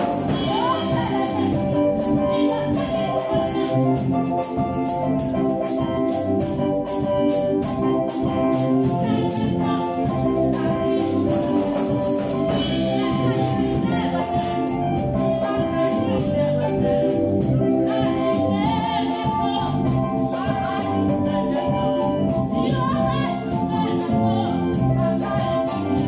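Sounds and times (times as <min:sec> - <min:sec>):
choir singing: 0:00.0 - 0:04.2, 0:08.5 - 0:26.0
band playing: 0:00.0 - 0:26.0
drums: 0:00.0 - 0:26.0.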